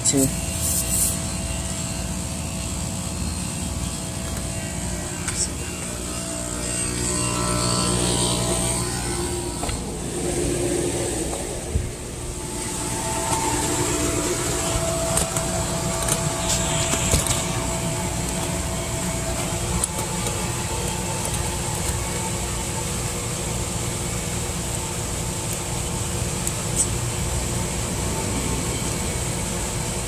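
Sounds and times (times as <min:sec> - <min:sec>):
faint steady tones: 0:00.0 - 0:30.0
low mechanical rumble: 0:00.0 - 0:30.0.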